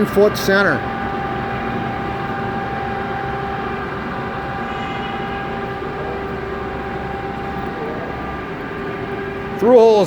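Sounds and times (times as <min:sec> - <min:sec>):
machinery hum with whining tones: 0:00.0 - 0:10.0.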